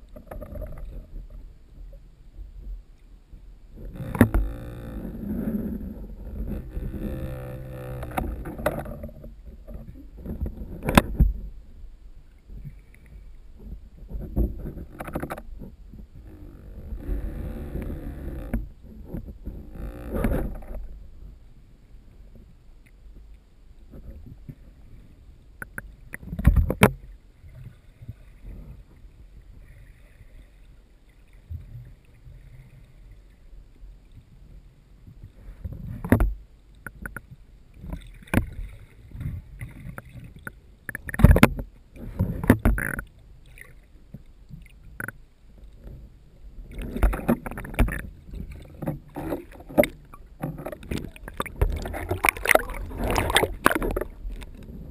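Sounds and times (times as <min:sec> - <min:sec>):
muffled underwater rushing water: 0:00.0 - 0:54.9.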